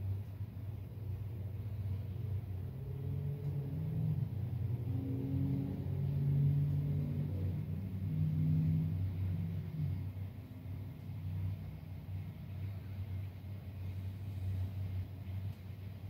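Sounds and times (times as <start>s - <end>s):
cars passing on wet road: 0.9s - 16.0s.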